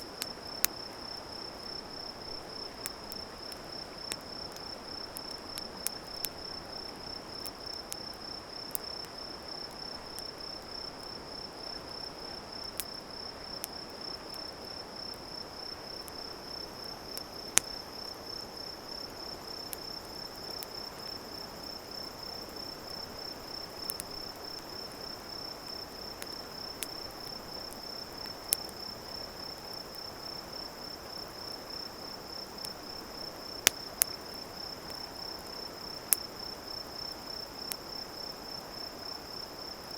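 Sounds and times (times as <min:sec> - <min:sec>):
campfire crackling and popping: 0:00.0 - 0:18.2, 0:19.0 - 0:38.1.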